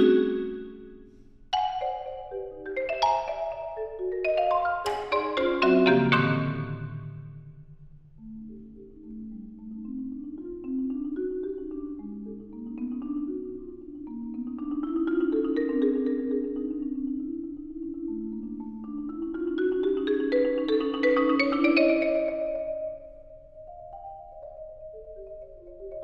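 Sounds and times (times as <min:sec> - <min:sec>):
marimba rolled notes: 0:00.0 - 0:26.0.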